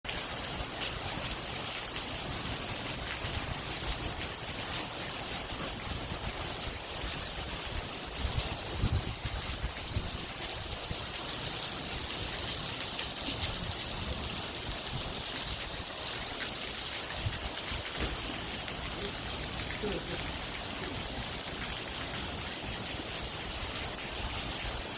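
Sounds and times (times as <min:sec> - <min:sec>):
heavy rain pouring: 0:00.1 - 0:24.9.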